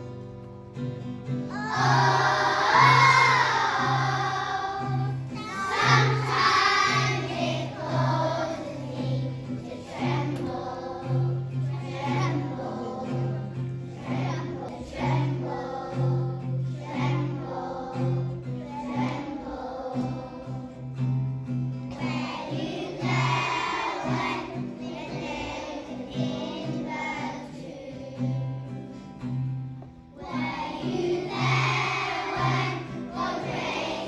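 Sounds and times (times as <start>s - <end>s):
children singing together: 1.5s - 21.0s, 21.9s - 28.9s, 30.2s - 34.0s.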